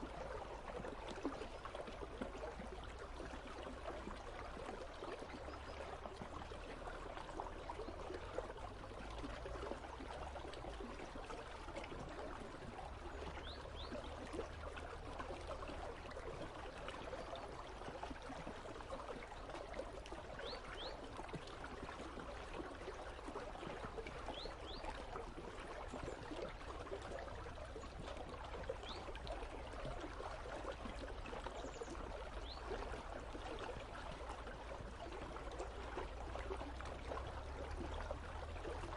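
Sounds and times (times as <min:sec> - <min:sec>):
river babbling and gurgling: 0:00.0 - 0:38.9.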